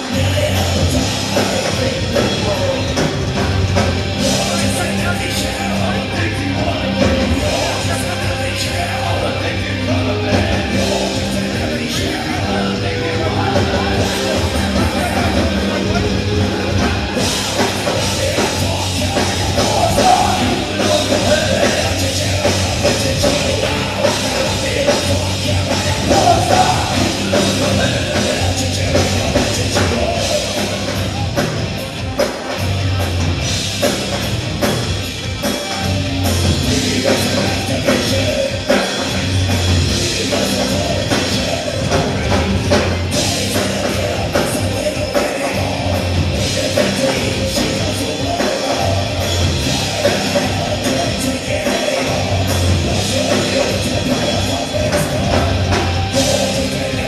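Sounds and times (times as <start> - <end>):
person singing and yelling: 0.0 - 32.6, 35.3 - 57.0
bass and drums: 0.0 - 57.0
distorted electric guitars: 0.0 - 57.0.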